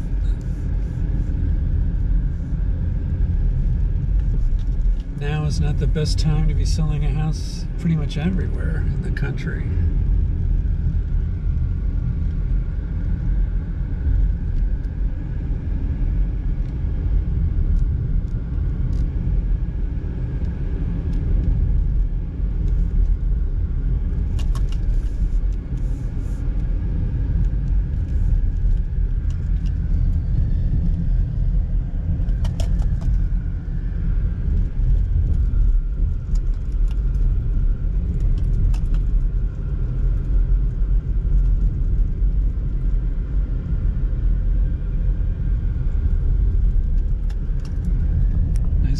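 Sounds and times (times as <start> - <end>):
car cabin road and engine rumble: 0.0 - 48.9.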